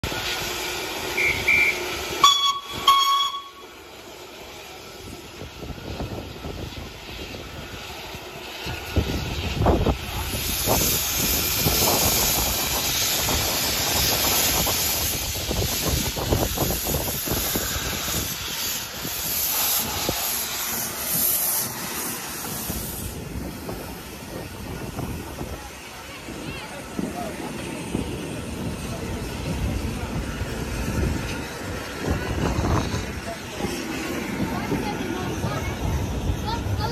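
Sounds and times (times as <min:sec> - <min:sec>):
steam hissing: 0:00.0 - 0:36.9
tram car rolling: 0:00.0 - 0:36.9.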